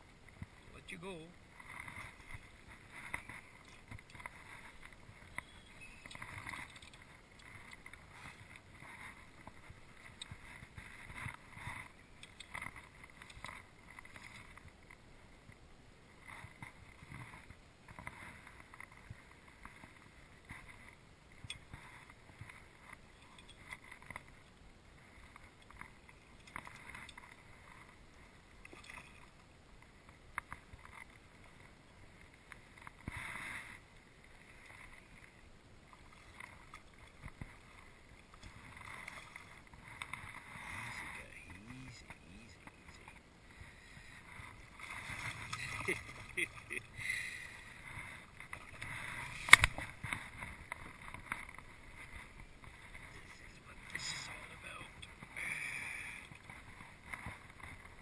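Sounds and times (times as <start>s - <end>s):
waves lapping against boat hull: 0.0s - 58.0s.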